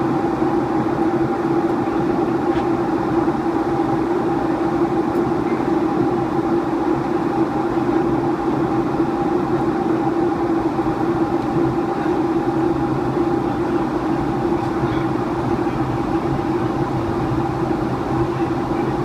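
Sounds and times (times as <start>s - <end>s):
aircraft cabin engine and airflow: 0.0s - 19.0s
constant low hum: 0.0s - 19.0s.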